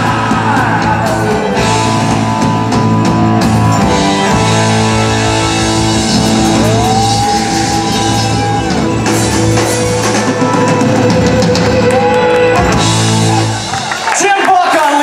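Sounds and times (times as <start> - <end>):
rock band playing loudly: 0.0 - 15.0.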